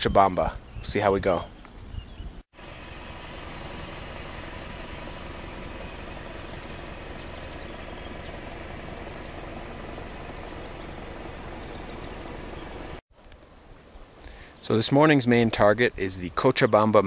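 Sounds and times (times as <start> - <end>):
outdoor background hiss: 0.2 - 17.0.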